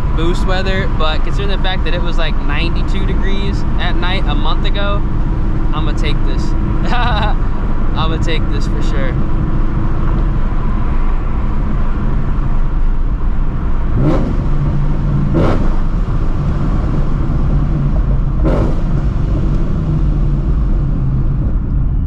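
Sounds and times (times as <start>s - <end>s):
car engine drone: 0.0s - 22.0s.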